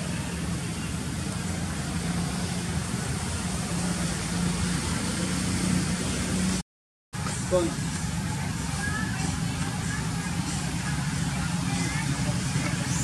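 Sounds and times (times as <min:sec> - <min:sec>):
background rushing noise: 0:00.0 - 0:06.6, 0:07.2 - 0:13.0
engine humming: 0:00.0 - 0:06.6, 0:07.2 - 0:13.0.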